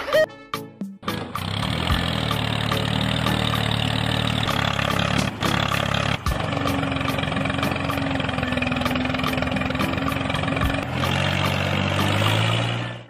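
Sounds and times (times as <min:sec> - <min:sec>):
tractor engine running: 0:01.0 - 0:13.0.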